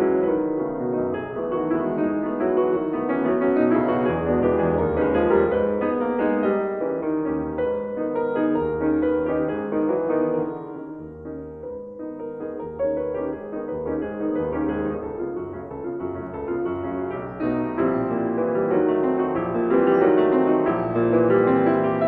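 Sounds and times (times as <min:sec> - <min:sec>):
instrumental piano music: 0:00.0 - 0:22.0.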